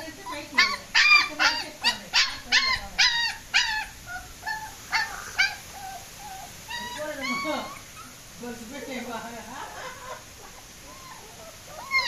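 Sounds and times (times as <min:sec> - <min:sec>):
puppy yipping and whimpering: 0:00.0 - 0:08.3, 0:09.6 - 0:12.0.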